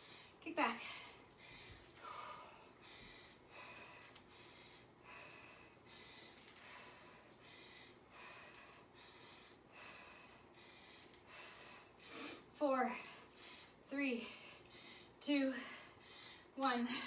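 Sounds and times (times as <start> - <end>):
woman breathing heavily: 0.0 - 17.0.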